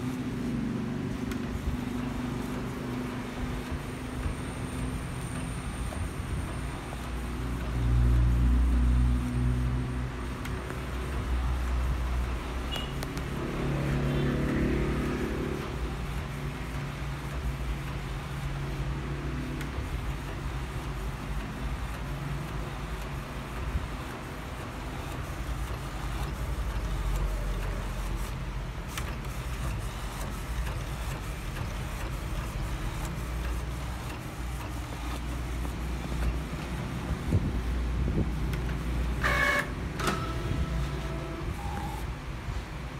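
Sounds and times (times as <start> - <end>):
inkjet printer printing: 0.0 - 42.9.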